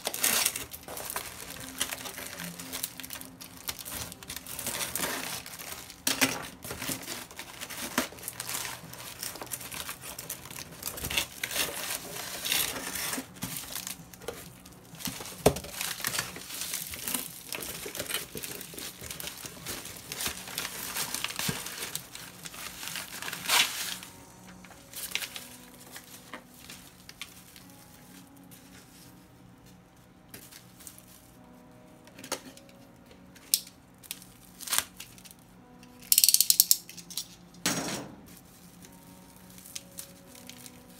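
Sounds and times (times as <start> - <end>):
paper and plastic crinkling: 0.0 - 36.4, 38.2 - 40.9.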